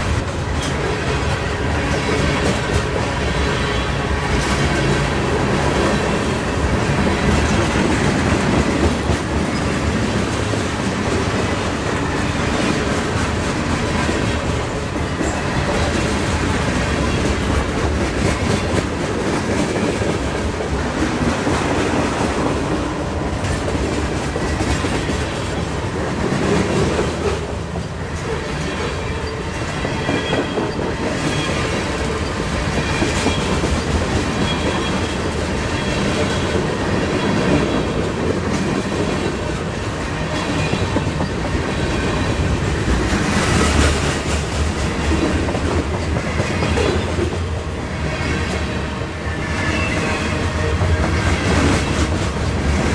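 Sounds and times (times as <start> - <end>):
freight train wheels clattering: 0.0 - 52.9.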